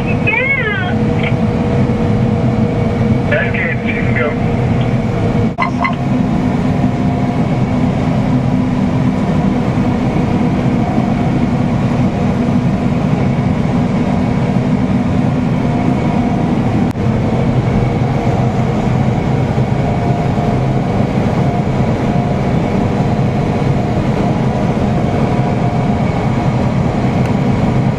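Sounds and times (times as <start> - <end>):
combine harvester droning: 0.0 - 27.9.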